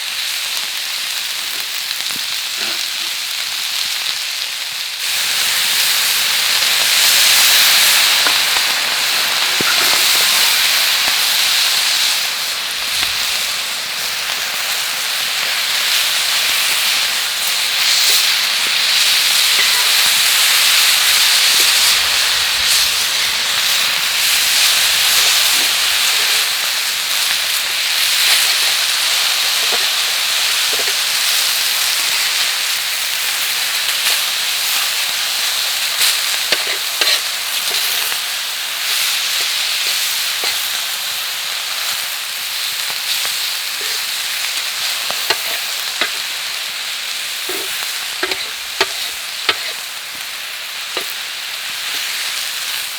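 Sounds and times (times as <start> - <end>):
food sizzling on griddle: 0.0 - 52.9.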